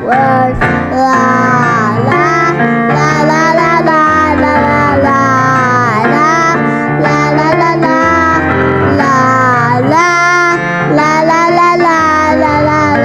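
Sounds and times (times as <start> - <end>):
children singing: 0.0 - 13.0
instrumental accompaniment: 0.0 - 13.0.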